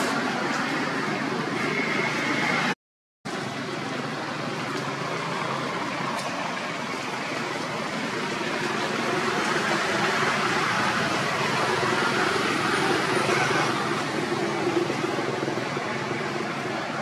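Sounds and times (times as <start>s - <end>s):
outdoor background rumble and hiss: 0.0s - 17.0s.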